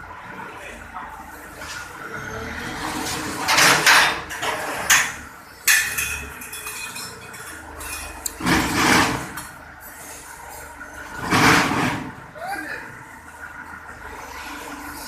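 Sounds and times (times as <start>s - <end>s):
forklift engine rumbling: 0.0s - 15.0s.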